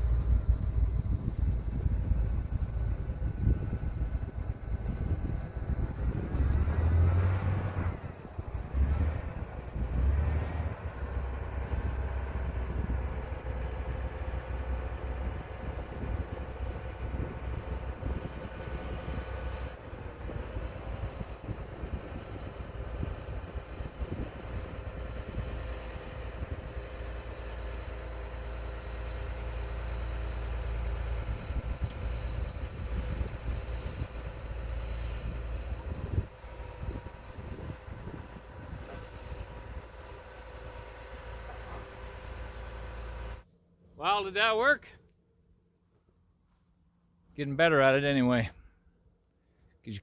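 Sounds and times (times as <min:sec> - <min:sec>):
excavator diesel engine running: 0:00.0 - 0:43.4, 0:44.0 - 0:44.8.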